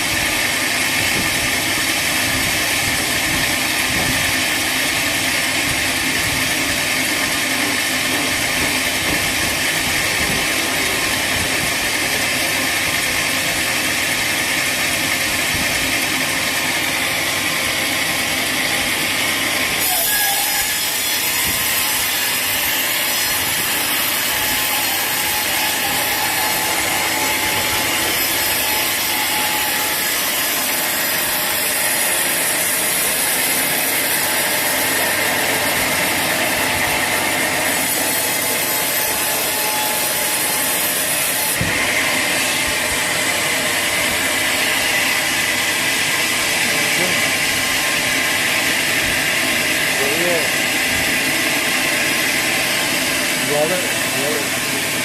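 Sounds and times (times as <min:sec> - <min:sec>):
saw blade cutting log: 0:00.0 - 0:55.0.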